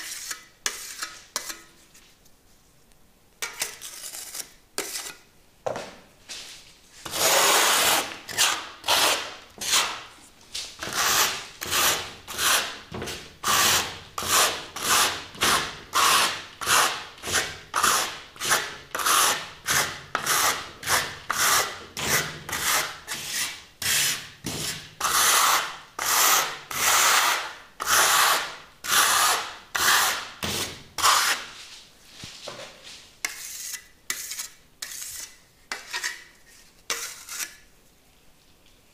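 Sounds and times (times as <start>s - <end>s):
trowel scraping plaster: 0.0s - 2.0s, 3.4s - 5.3s, 7.0s - 31.6s, 33.2s - 37.7s.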